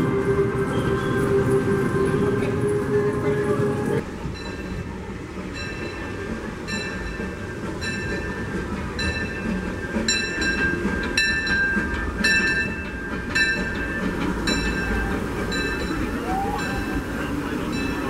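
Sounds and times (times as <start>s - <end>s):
locomotive bell ringing: 0.0s - 18.0s
train rumbling: 0.0s - 18.0s.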